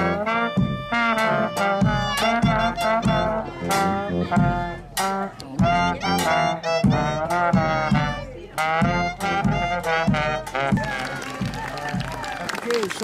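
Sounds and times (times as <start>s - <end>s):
bass drum beat: 0.0s - 12.4s
brass band playing: 0.0s - 12.8s.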